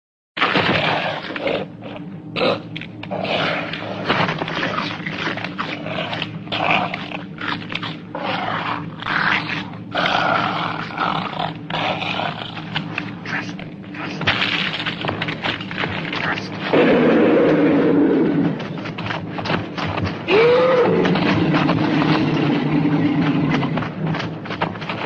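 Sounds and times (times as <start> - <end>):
steady low hum: 0.4 - 25.0
dinosaurs roaring: 0.6 - 14.3, 16.1 - 25.0.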